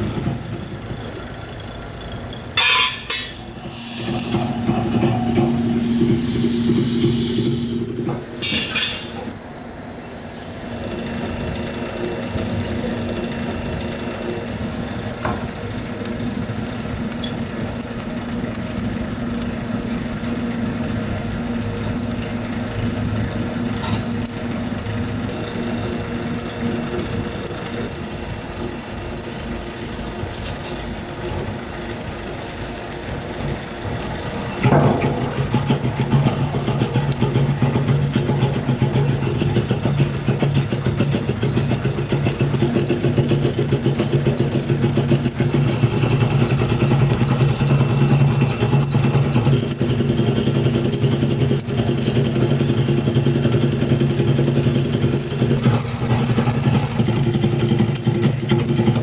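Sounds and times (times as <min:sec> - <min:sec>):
factory machinery hum: 0:00.0 - 0:59.0.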